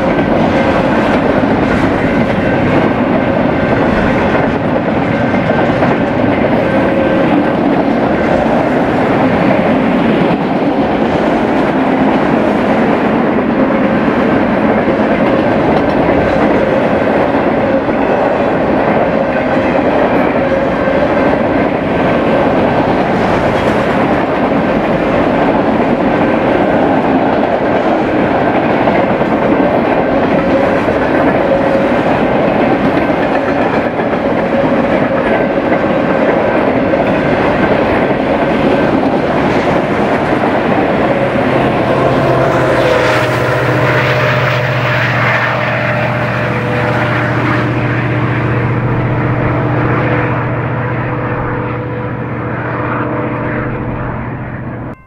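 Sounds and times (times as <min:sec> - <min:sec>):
train wheels clattering on rail: 0:00.0 - 0:55.0.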